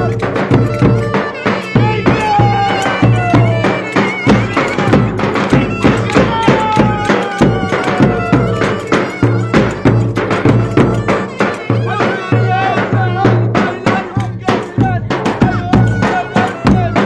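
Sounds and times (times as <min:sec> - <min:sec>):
drum beat: 0:00.0 - 0:17.0
held melody line: 0:00.0 - 0:17.0.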